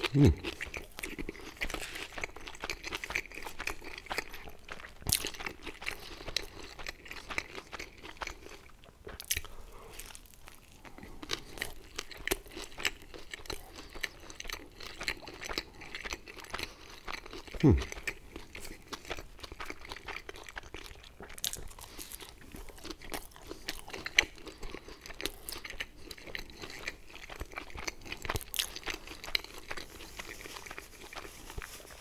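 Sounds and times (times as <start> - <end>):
crunchy chewing: 0.0 - 32.0.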